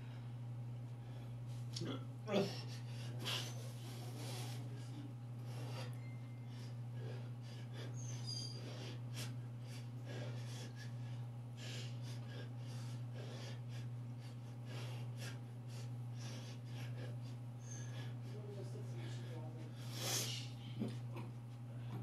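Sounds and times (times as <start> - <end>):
man breathing quickly: 0.0 - 1.7, 2.4 - 22.0
steady low hum: 0.0 - 22.0.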